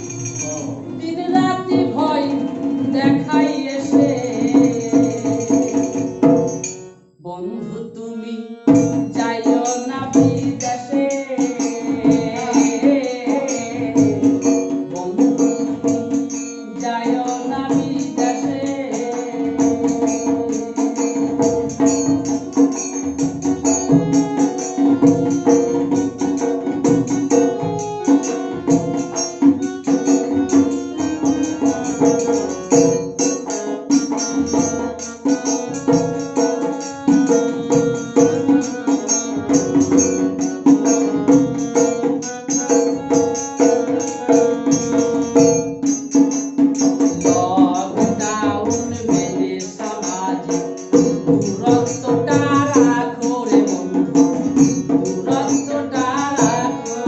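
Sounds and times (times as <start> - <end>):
held instrumental melody: 0.0 - 57.0.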